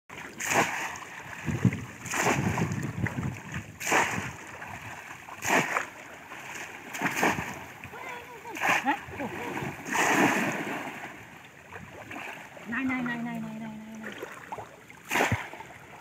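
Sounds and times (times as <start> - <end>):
fish traps splashing into water: 0.1 - 13.3, 13.9 - 16.0
water sloshing around legs: 0.1 - 16.0.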